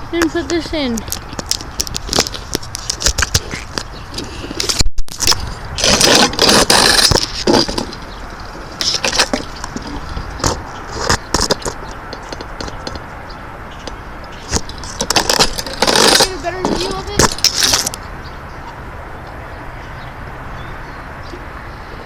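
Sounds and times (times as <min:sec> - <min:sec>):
close rustling and scraping: 0:00.2 - 0:18.1.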